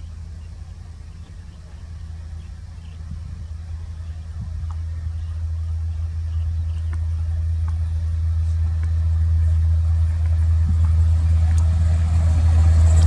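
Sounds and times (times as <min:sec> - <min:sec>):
electric locomotive hum: 0:00.0 - 0:13.0.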